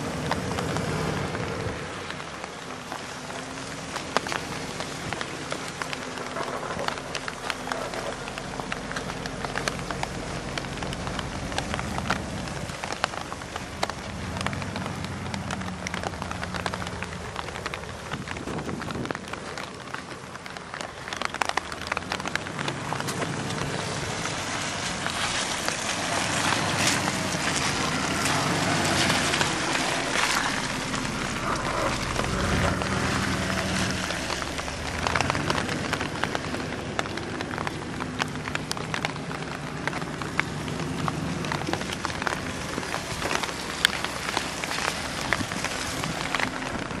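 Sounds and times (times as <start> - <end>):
car engine driving slowly: 0.0 - 47.0
crackling hiss with clicks: 0.0 - 47.0.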